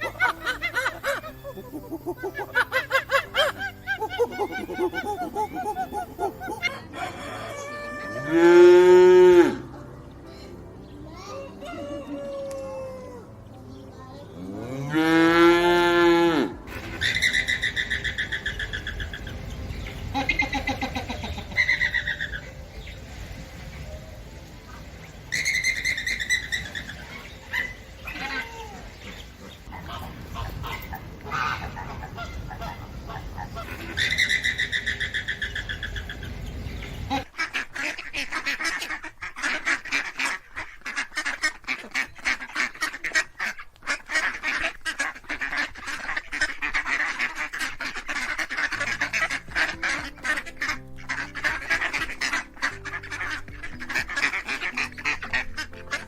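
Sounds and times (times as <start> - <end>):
ducks and geese calling: 0.0 - 10.5, 11.2 - 13.3, 14.4 - 56.0.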